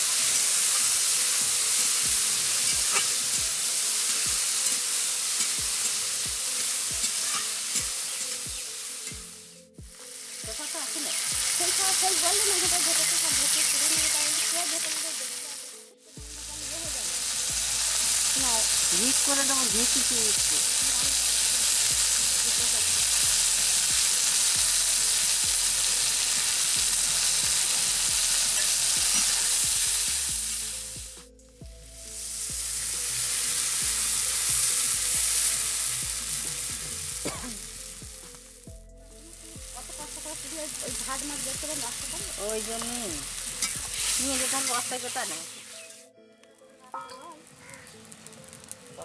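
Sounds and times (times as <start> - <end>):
oil sizzling: 0.0 - 31.2, 31.9 - 38.6, 39.2 - 46.1, 46.9 - 49.0.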